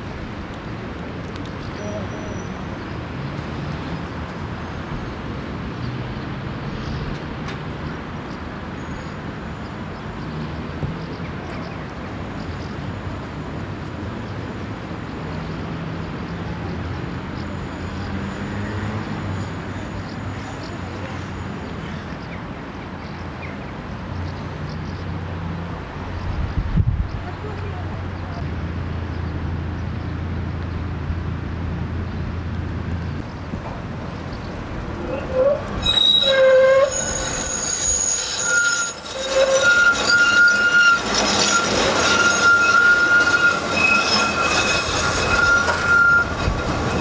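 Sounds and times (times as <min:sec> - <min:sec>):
road traffic: 0:00.0 - 0:47.0.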